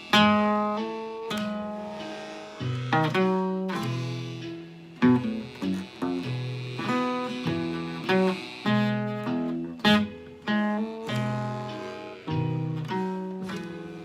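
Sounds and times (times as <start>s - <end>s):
blues guitar playing: 0.0s - 14.0s.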